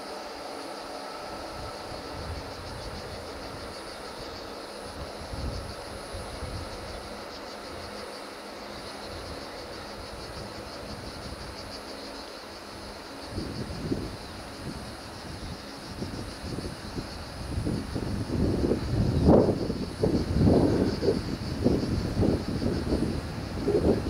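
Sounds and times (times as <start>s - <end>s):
cicadas chorus: 0.0s - 24.0s
wind buffeting microphone: 1.3s - 8.0s, 8.8s - 24.0s.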